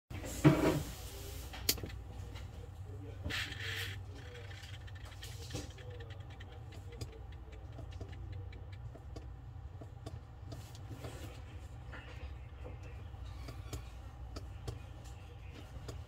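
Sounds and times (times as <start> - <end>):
low electrical hum: 0.1 - 16.0.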